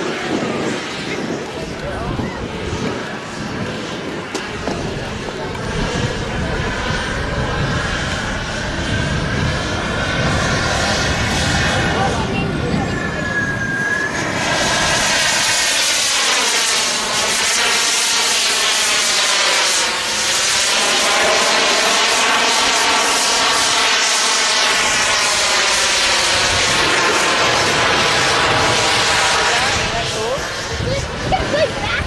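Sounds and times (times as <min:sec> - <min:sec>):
model airplane engine droning: 0:00.0 - 0:32.0.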